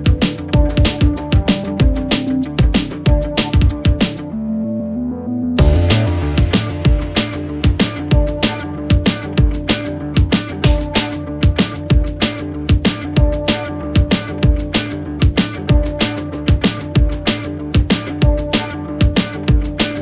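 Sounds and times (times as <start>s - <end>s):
snare or hi-hat hits: 0.0s - 4.2s, 5.6s - 20.0s
electronic music with drum beat: 0.0s - 4.3s, 5.6s - 20.0s.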